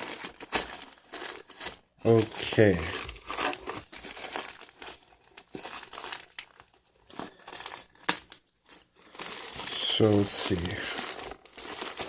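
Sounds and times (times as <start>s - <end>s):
package wrapping crinkling: 0.0s - 12.0s
sharp crackle of wrapping: 0.0s - 12.0s.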